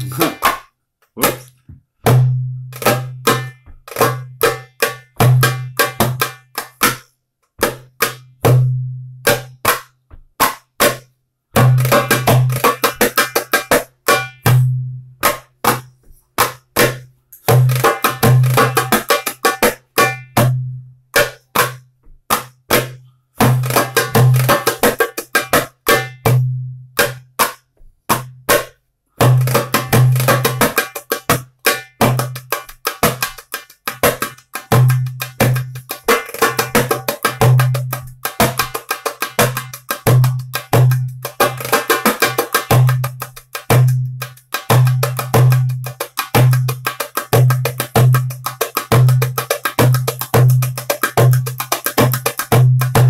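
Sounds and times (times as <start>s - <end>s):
goblet drum played by hand: 0.0s - 53.0s.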